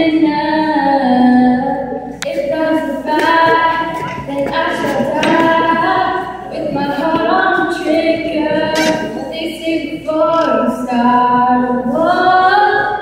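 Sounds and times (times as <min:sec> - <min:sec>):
girl singing pop song: 0:00.0 - 0:13.0.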